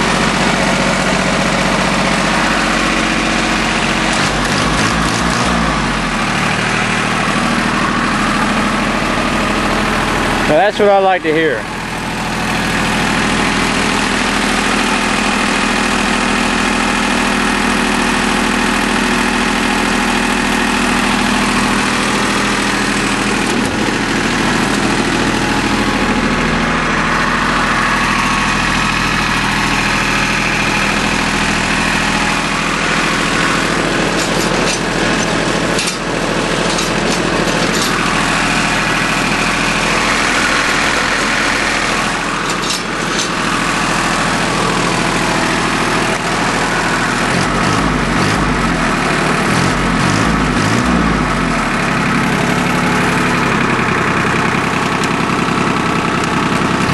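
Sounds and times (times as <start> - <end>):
tractor diesel idling: 0.0 - 56.9.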